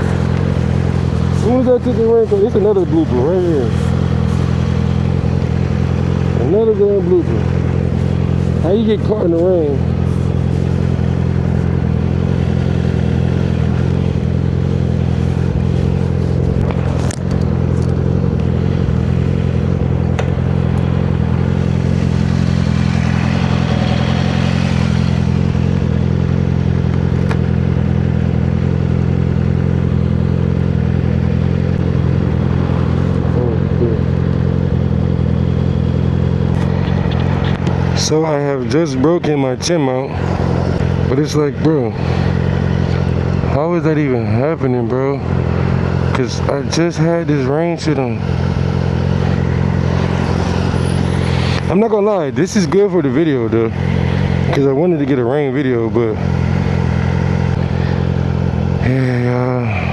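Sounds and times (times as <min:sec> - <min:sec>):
motorcycle engine running steadily: 0:00.0 - 0:59.9.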